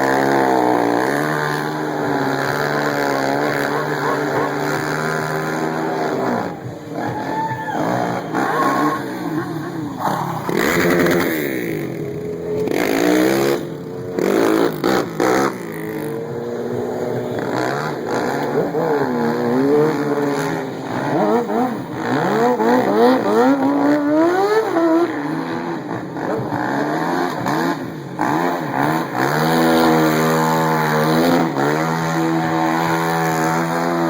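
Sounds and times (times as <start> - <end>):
engines revving hard: 0.0 - 34.0.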